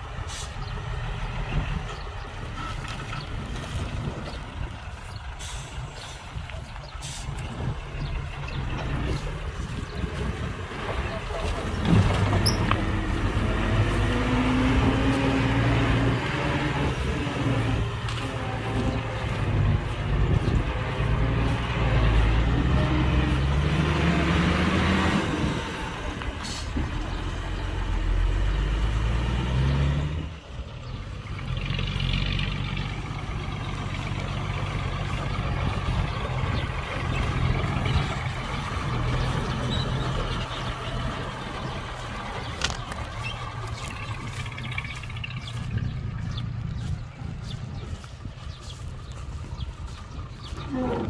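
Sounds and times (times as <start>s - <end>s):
diesel engine revving: 0.0s - 51.0s.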